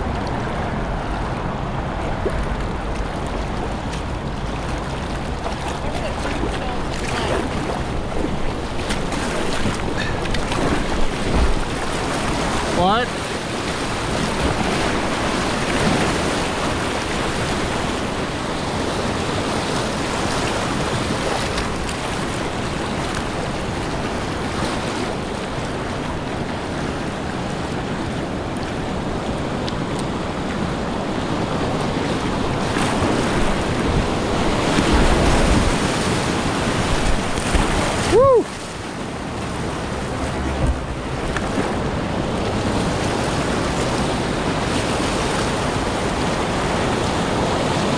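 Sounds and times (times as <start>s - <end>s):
whitewater rapids rushing: 0.0s - 47.9s.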